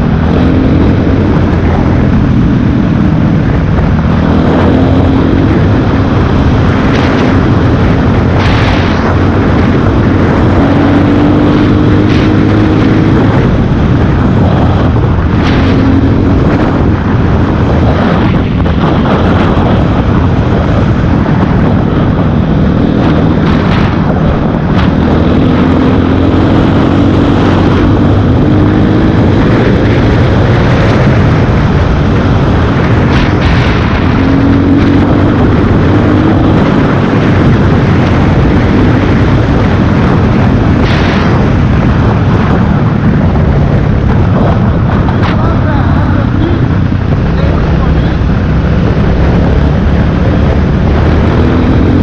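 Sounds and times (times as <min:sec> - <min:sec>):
motorcycle engine revving: 0:00.0 - 0:52.0
wind noise on microphone: 0:00.0 - 0:52.0.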